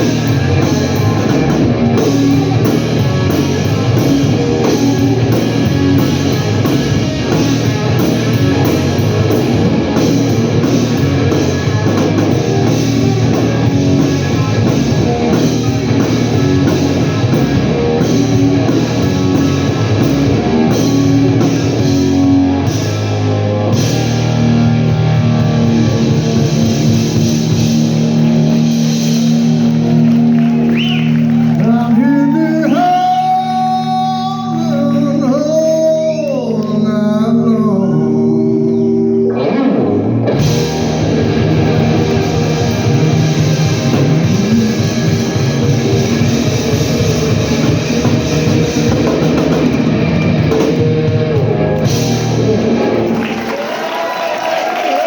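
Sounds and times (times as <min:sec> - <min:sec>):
drum kit: 0:00.0 - 0:35.9, 0:40.2 - 0:55.0
electric guitar playing: 0:00.0 - 0:53.9.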